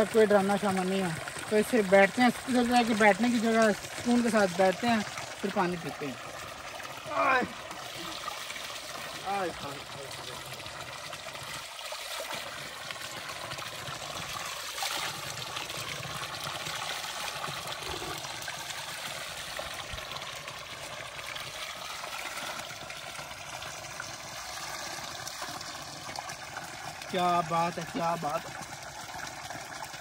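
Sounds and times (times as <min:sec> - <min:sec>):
water pouring into pool: 0:00.0 - 0:30.0.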